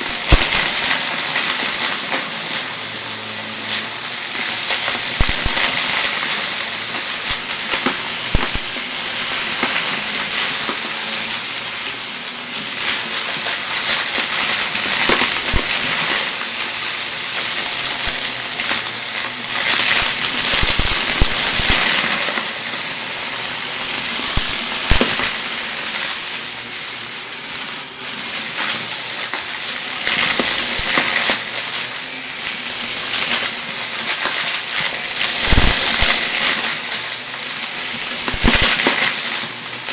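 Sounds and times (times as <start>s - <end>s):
vacuum cleaner suction hiss: 0.0s - 39.9s.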